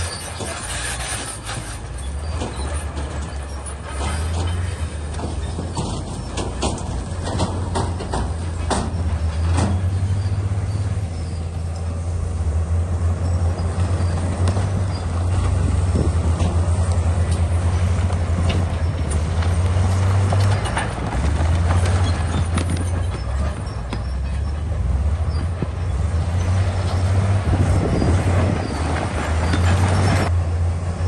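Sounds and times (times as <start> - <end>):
clanking of tracks and rock: 0.0 - 12.0, 13.2 - 30.4
bulldozer diesel engine running: 0.0 - 31.0.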